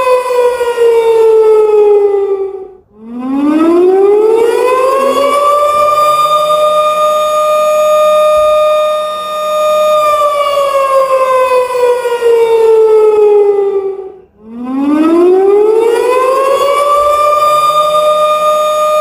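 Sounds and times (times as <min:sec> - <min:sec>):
warning siren: 0:00.0 - 0:19.0.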